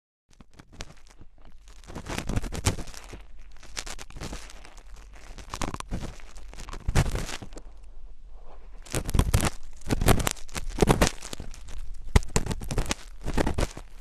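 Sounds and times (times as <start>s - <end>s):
close scratching and rustling: 0.3s - 14.0s.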